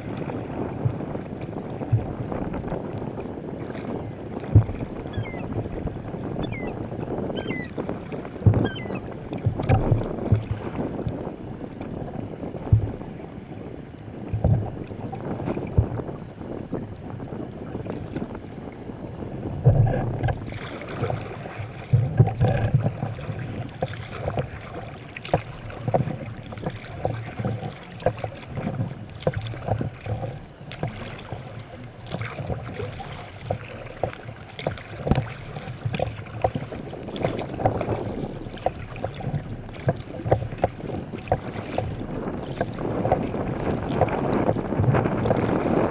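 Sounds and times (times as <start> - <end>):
paddle splashing: 0.0 - 45.9
water slapping kayak hull: 0.0 - 45.9
wind buffeting microphone: 0.0 - 45.9.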